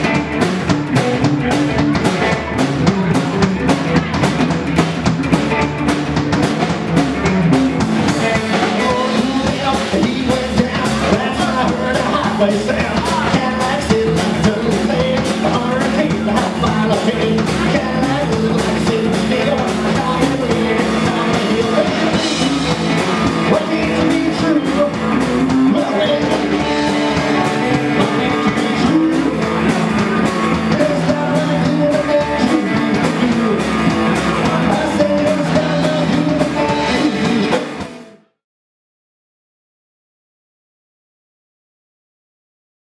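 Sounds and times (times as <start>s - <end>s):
man singing: 0.0s - 4.8s, 8.0s - 37.9s
rock and roll band playing: 0.0s - 38.3s.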